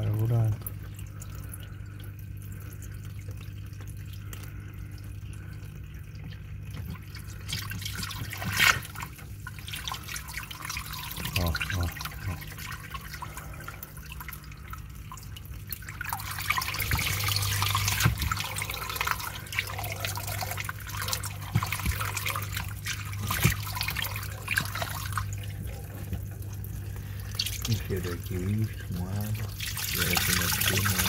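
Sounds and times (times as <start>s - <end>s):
steady low hum: 0.0s - 31.0s
water splashing and gurgling: 0.0s - 31.0s.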